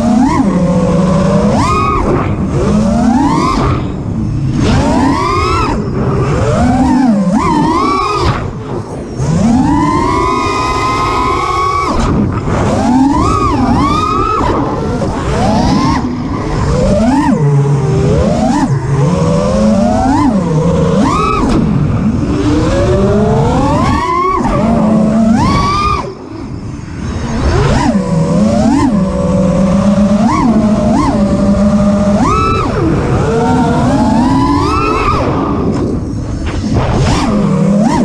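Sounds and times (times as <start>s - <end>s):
drone motors whining: 0.0s - 38.0s.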